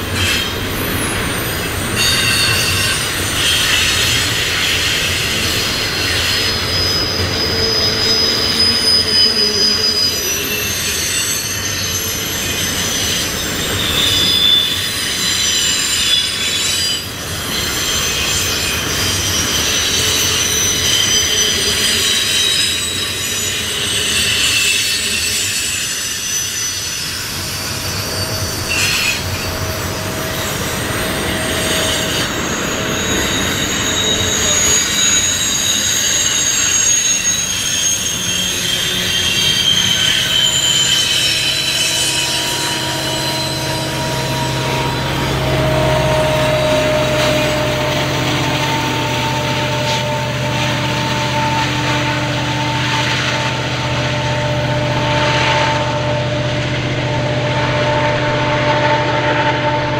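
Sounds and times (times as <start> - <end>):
rumble of wheels on rail: 0.0 - 59.9
train wheels squealing: 0.0 - 59.9.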